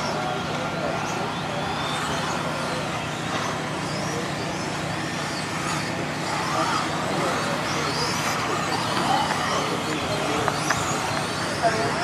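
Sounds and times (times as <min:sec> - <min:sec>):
radio-controlled car motors whining: 0:00.0 - 0:12.0.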